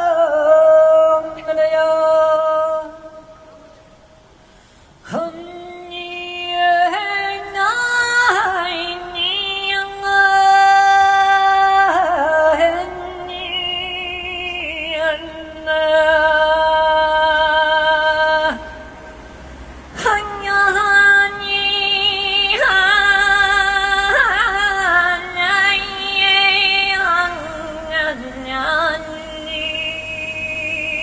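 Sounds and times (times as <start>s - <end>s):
woman singing wordless notes: 0.0s - 4.1s, 5.0s - 19.0s, 19.9s - 31.0s.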